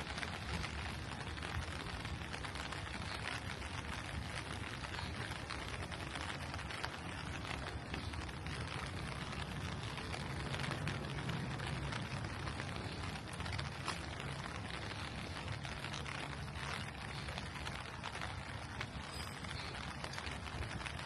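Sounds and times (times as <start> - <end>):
low city hum: 0.0 - 21.0
rain falling: 0.0 - 21.0.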